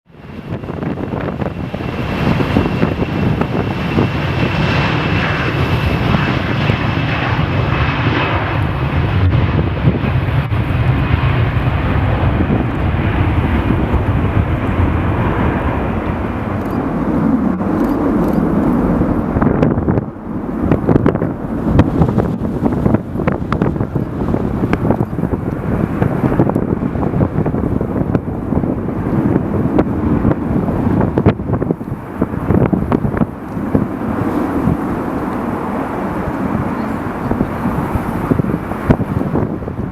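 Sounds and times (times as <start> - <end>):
jet engines roaring: 0.1 - 39.9
wind buffeting microphone: 0.1 - 39.9.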